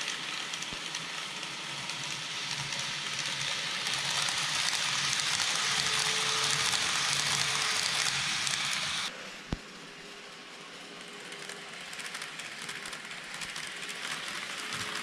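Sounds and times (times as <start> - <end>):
model train wheels rolling on rail: 0.0 - 15.0.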